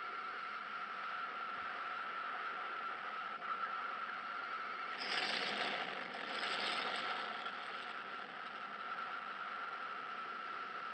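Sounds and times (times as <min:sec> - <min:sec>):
steady high hum: 0:00.0 - 0:10.9.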